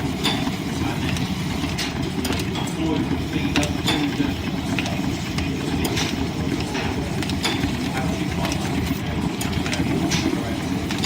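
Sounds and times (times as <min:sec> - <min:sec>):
wood lathe and belts rumbling: 0:00.0 - 0:11.0.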